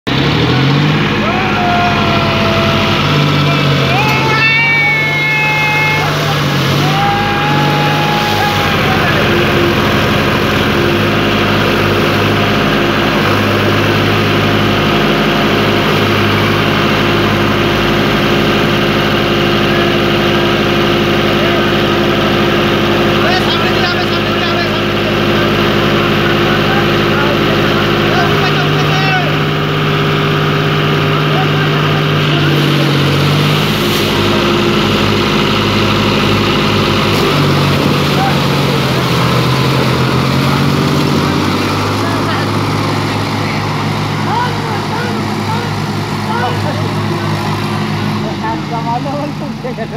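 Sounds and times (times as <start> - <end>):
diesel tractor engines running: 0.0 - 49.9.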